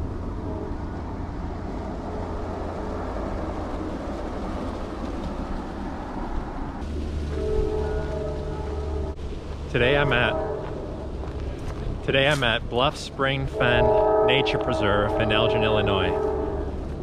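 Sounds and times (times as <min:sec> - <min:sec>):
distant train rumbling: 0:00.0 - 0:17.0
faint steady tones: 0:00.0 - 0:17.0.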